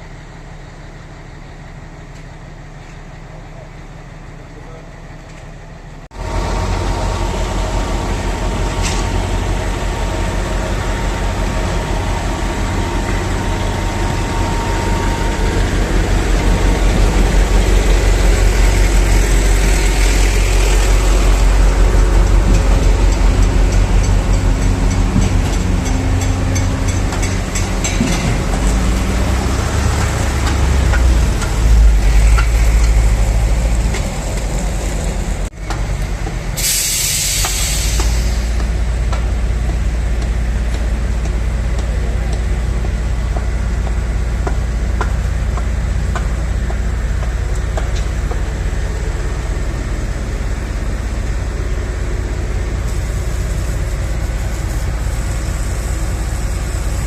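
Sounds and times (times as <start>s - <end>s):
diesel truck engines running: 0.0s - 57.0s.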